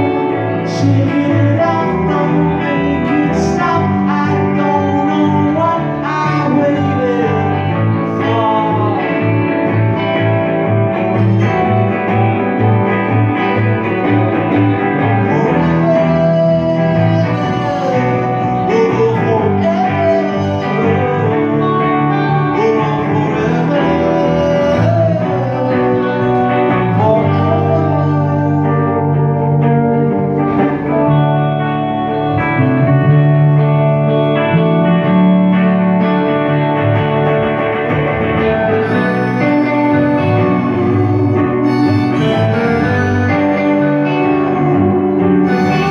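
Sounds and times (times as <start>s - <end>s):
man singing: 0.0s - 10.6s, 11.2s - 31.0s, 38.4s - 45.9s
bass guitar: 0.0s - 45.9s
electric guitars: 0.0s - 45.9s.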